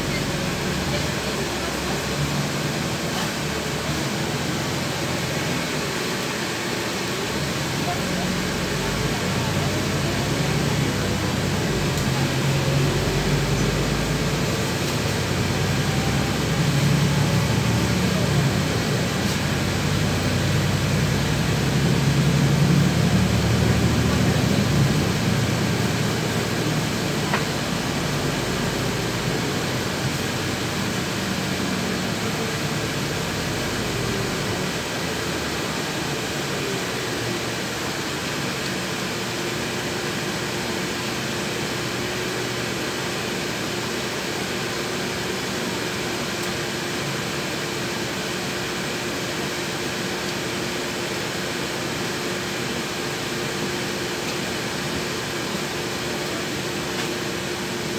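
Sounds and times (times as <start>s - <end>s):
bus engine drone: 0.0s - 57.9s
road noise: 0.0s - 57.9s.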